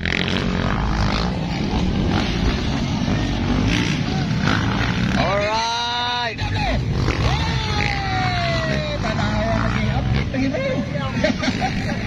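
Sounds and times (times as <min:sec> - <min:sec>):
dirt bike engines running: 0:00.0 - 0:12.0
spectators chatting: 0:00.2 - 0:12.0.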